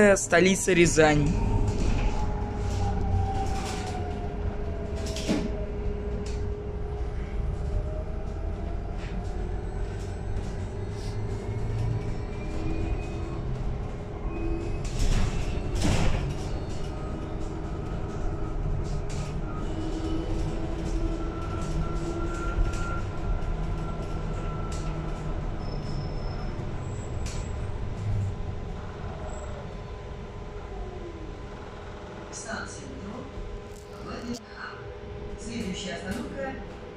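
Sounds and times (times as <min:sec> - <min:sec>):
bus tyre and body rumble: 0:01.4 - 0:32.4.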